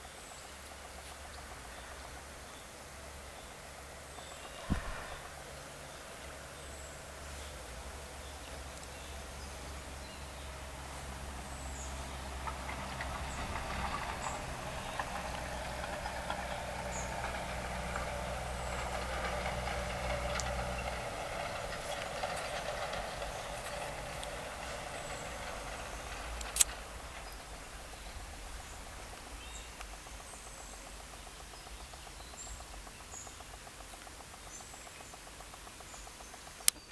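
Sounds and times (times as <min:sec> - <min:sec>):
distant motor engine running: 0:00.0 - 0:36.9
low hum: 0:00.8 - 0:34.4.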